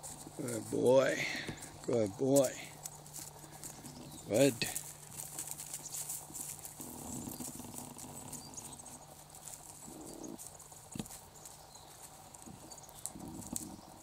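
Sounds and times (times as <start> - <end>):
footsteps through dry grass and snow: 0.0 - 14.0.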